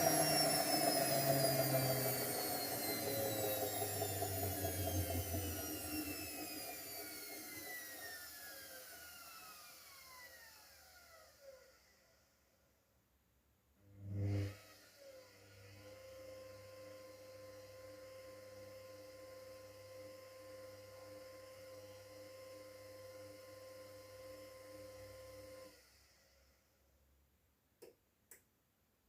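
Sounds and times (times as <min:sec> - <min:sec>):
washing machine spin whine: 0:00.0 - 0:12.0, 0:14.0 - 0:26.5.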